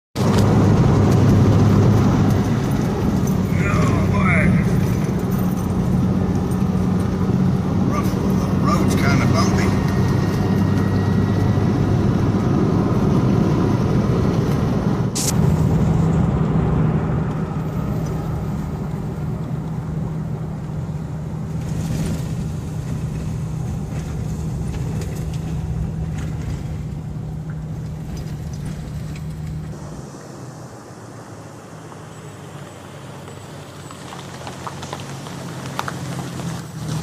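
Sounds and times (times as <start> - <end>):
motor vehicle droning: 0.2 - 37.0.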